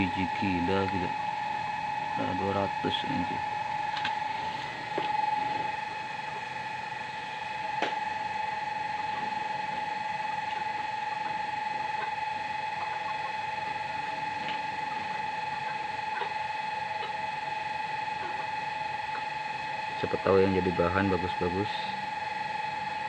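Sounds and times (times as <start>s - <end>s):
steady whining hum: 0.0s - 23.0s.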